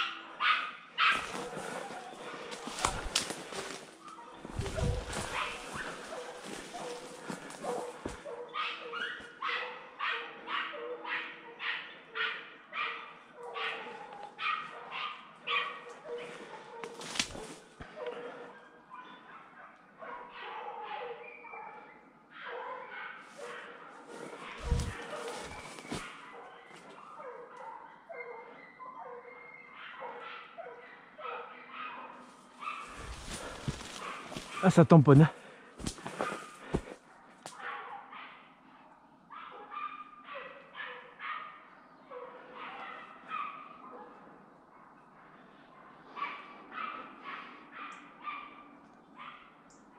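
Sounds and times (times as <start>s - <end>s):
dog barking: 0.0s - 35.2s, 36.1s - 38.6s, 39.3s - 49.6s.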